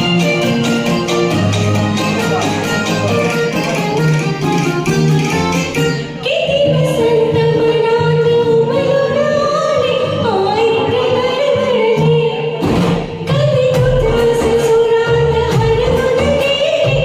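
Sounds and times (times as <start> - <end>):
karaoke backing track: 0.0 - 17.0.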